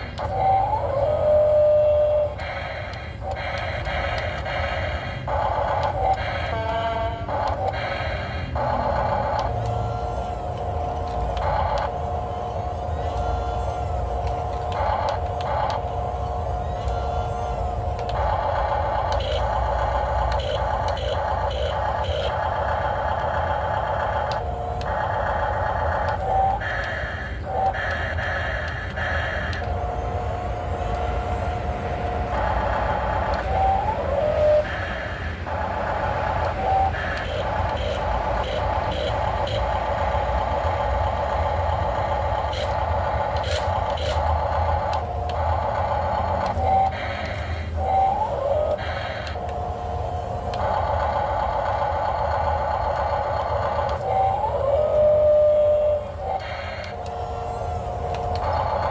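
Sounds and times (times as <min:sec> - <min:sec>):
clicks: 0:00.0 - 0:58.9
excavator mechanical whine: 0:00.0 - 0:58.9.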